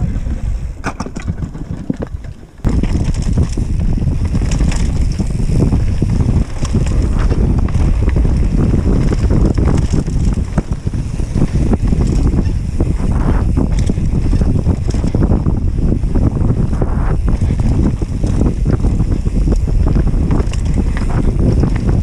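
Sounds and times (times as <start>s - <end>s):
bike clicks and rattles: 0.0s - 22.0s
tyre rumble on dirt: 0.0s - 22.0s
wind buffeting microphone: 0.0s - 22.0s.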